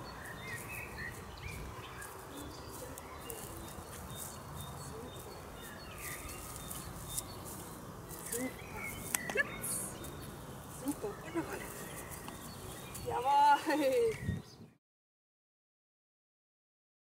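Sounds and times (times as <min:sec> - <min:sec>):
faint outdoor hiss: 0:00.0 - 0:14.8
small birds chirping: 0:00.0 - 0:14.8.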